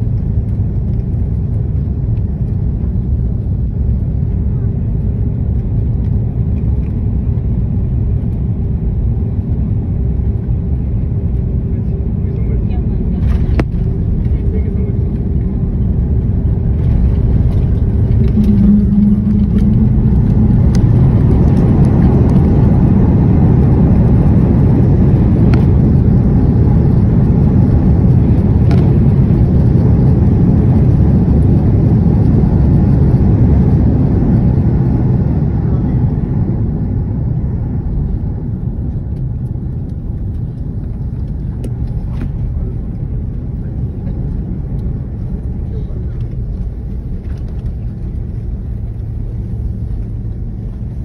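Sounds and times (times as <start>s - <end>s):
airliner landing rumble: 0.0s - 51.0s.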